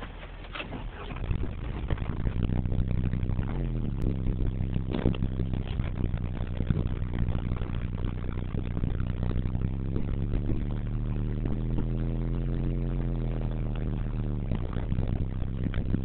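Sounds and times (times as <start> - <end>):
diesel engine idling: 0.0 - 16.0
engine knock: 0.0 - 16.0.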